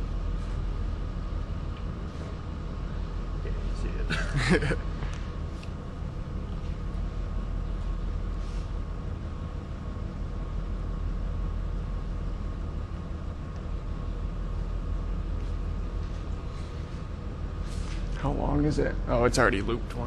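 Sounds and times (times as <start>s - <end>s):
low equipment hum: 0.0s - 20.0s.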